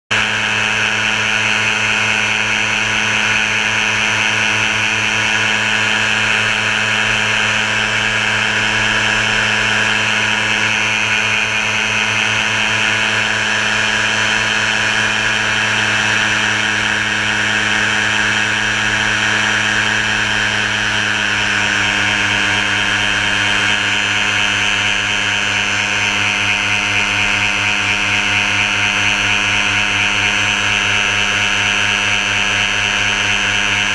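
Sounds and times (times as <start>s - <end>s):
paramotor engine droning: 0.1s - 33.9s.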